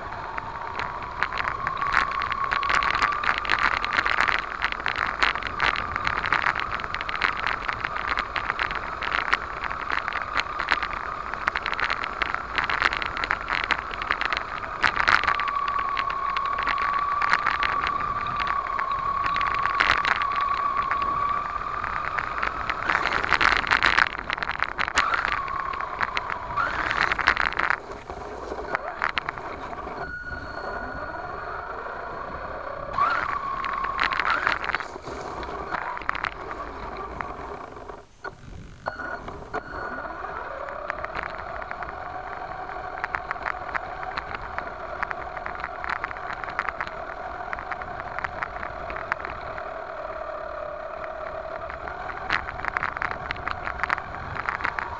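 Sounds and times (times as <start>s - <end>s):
toy car motor whine: 0.0s - 54.9s
tyres scraping on loose dirt: 0.0s - 54.9s.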